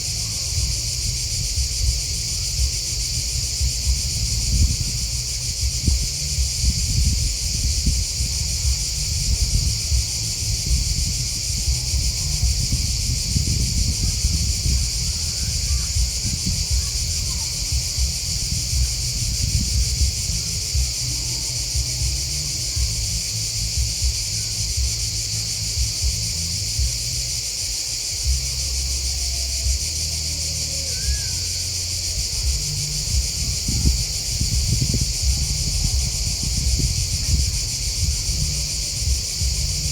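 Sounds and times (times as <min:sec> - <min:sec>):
grasshoppers and crickets chirping: 0:00.0 - 0:39.9
low uneven rumble: 0:00.0 - 0:39.9.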